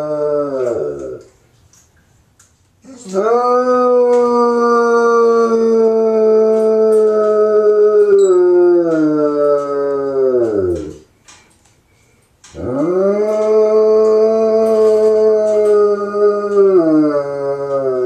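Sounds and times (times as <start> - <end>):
dog howling: 0.0 - 1.3, 2.9 - 11.1, 12.6 - 18.0.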